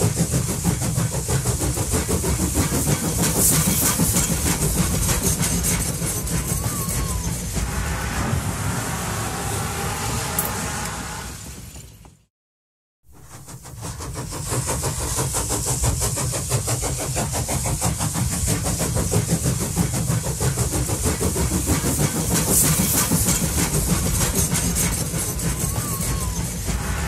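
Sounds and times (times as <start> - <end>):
hiss: 0.0 - 11.6, 13.1 - 27.0.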